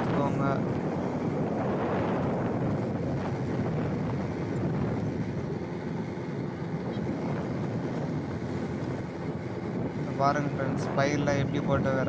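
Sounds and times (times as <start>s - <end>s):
motorcycle engine running: 0.0s - 10.6s
wind rushing over microphone: 0.0s - 12.0s.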